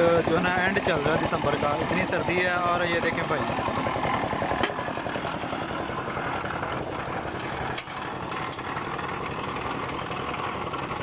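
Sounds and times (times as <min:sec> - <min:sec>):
engine running with low pulsing: 0:00.0 - 0:11.0.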